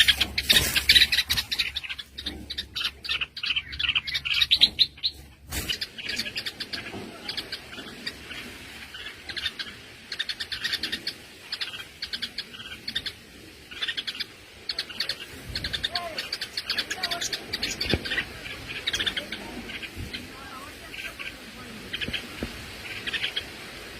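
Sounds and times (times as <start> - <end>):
small birds chirping: 0.0 - 23.9.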